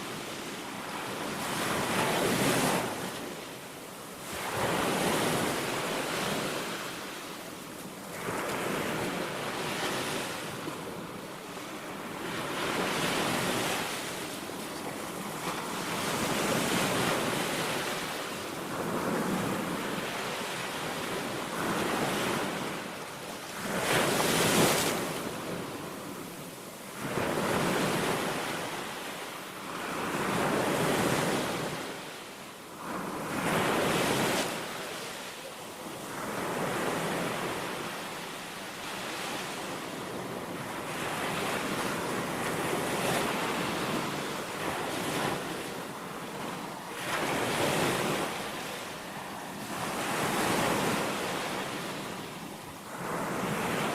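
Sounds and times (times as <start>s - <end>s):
waves breaking on a beach: 0.0s - 53.9s.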